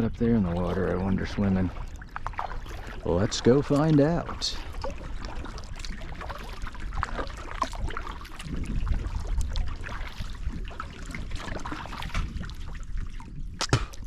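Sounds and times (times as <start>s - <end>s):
paddle splashing and dripping: 0.0s - 14.0s.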